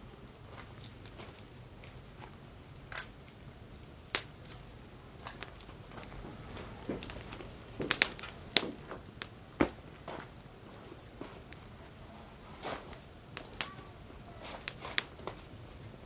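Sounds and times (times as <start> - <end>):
firewood burning and popping: 0.0 - 16.0.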